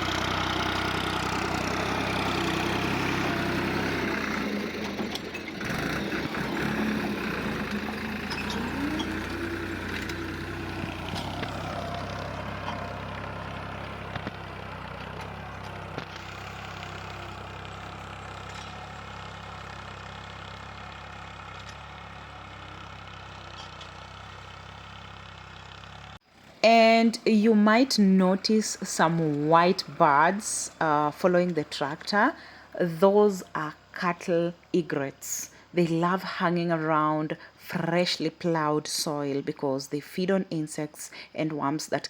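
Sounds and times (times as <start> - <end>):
tractor engine droning: 0.0 - 39.6.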